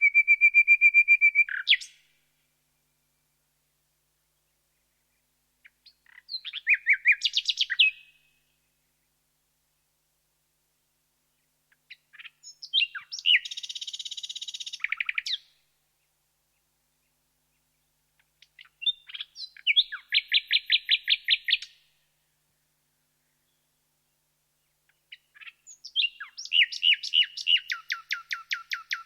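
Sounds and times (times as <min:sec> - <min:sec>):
nightingale singing: 0:00.0 - 0:02.2, 0:04.2 - 0:09.2, 0:11.4 - 0:21.9, 0:23.1 - 0:29.0.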